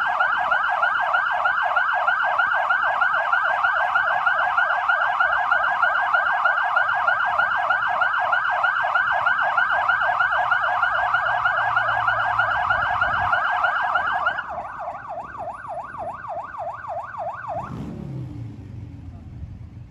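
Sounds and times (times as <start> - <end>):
fire engine sirens yelping: 0.0 - 19.7.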